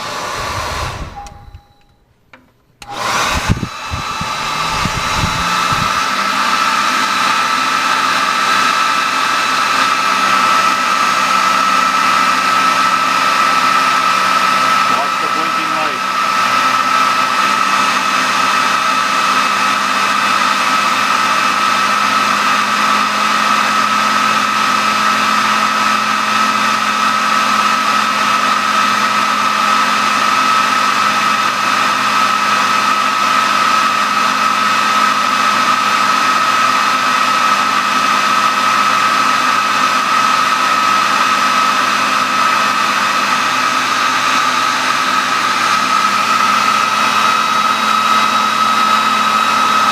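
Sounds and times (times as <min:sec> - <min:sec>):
hair dryer running: 0:00.0 - 0:01.9, 0:02.8 - 0:49.9.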